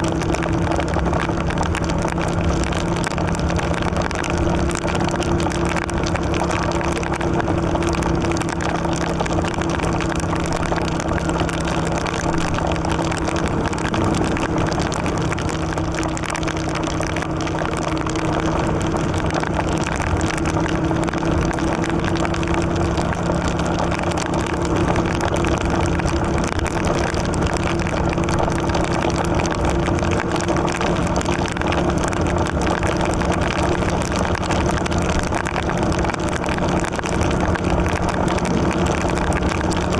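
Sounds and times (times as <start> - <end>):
motorcycle engine cruising: 0.0 - 39.9
tyres on wet road: 0.0 - 39.9.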